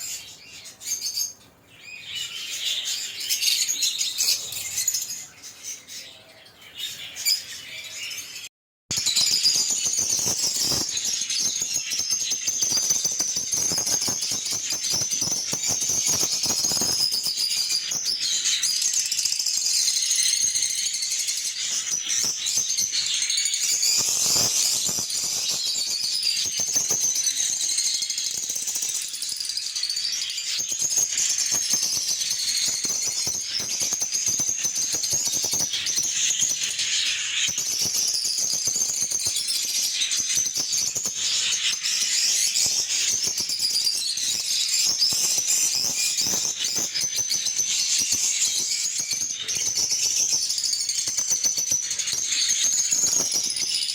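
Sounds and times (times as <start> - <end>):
lovebirds chirping: 0.0 - 53.9.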